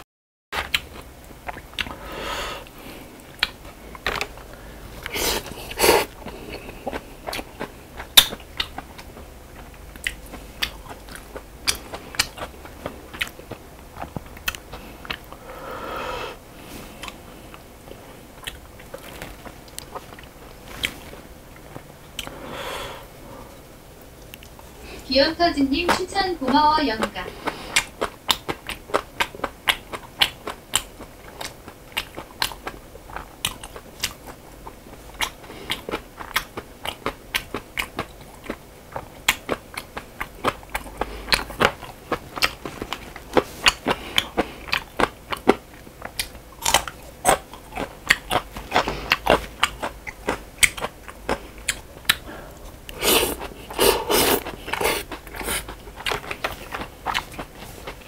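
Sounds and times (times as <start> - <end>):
mouth and lip clicks: 0.6 - 2.0, 3.2 - 15.5, 18.4 - 22.4, 25.8 - 58.0
person chewing: 0.6 - 25.0, 26.4 - 58.0.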